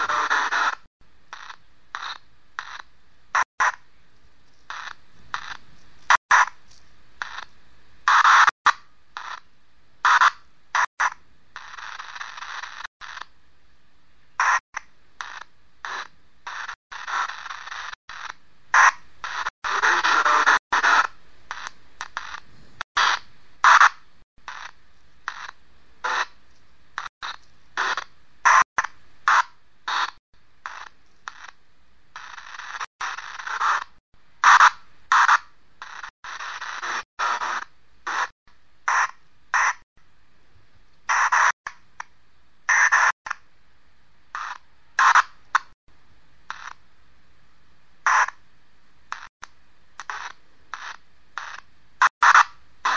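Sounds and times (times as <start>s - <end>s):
radio static bursts: 0.0s - 3.9s, 4.6s - 13.4s, 14.3s - 39.8s, 41.1s - 41.9s, 42.6s - 43.4s, 44.3s - 45.8s, 46.5s - 46.8s, 48.0s - 48.4s, 49.1s - 49.3s, 50.0s - 52.9s.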